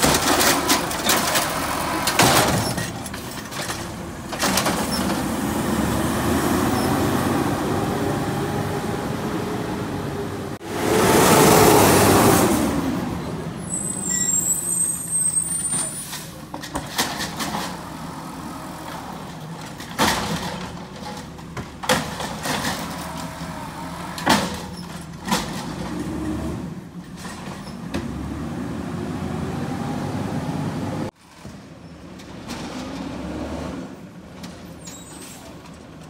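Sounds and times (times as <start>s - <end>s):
garbage truck engine: 0.0s - 36.0s.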